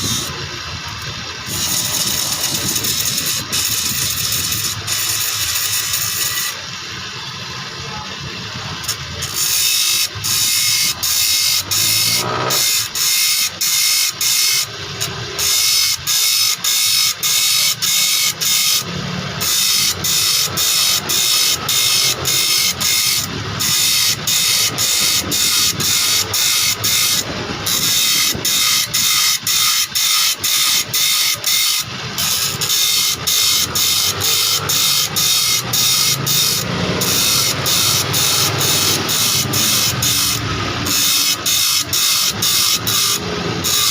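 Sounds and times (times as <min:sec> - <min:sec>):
sharpening machine grinding: 0:00.0 - 0:43.9.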